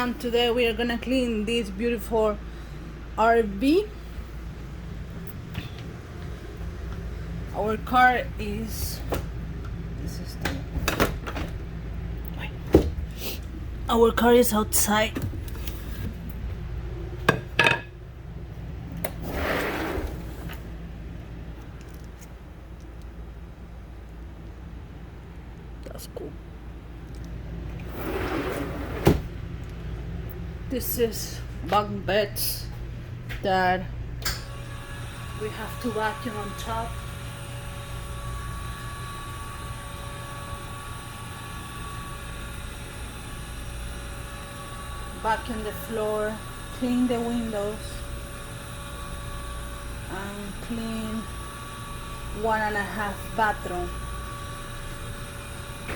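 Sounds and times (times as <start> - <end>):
low steady hum: 0.0 - 55.9.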